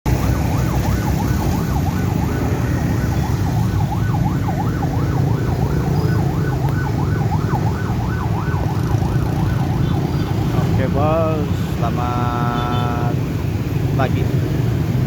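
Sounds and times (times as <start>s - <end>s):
electronic warning siren wailing: 0.1s - 13.2s.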